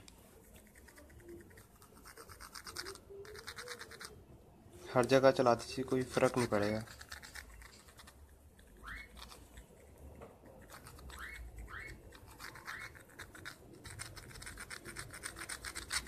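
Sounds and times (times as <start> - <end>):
pencil scratching: 0.2 - 4.2, 5.8 - 9.9, 10.5 - 16.0.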